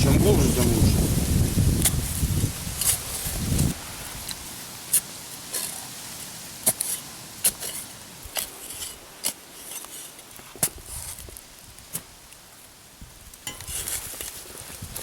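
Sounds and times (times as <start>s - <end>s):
hand tool scraping soil: 1.4s - 12.1s, 13.4s - 15.0s.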